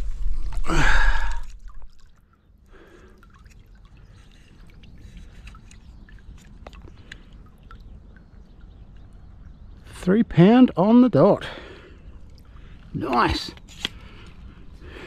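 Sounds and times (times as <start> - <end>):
water dripping: 0.0 - 10.0, 11.4 - 14.9.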